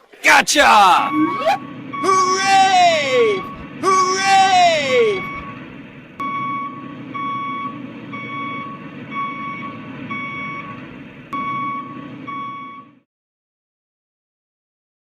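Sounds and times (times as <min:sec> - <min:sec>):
low engine rumble: 0:00.5 - 0:13.0
vehicle reversing alarm beeping: 0:00.6 - 0:13.1.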